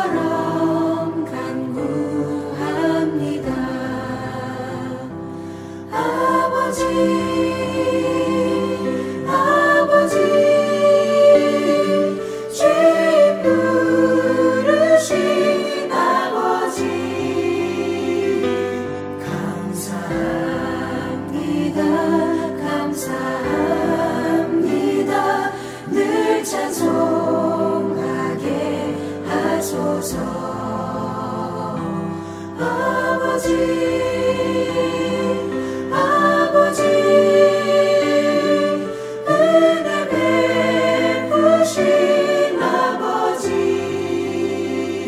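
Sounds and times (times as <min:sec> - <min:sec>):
mixed choir singing: 0:00.0 - 0:45.0
piano accompaniment: 0:00.0 - 0:45.0.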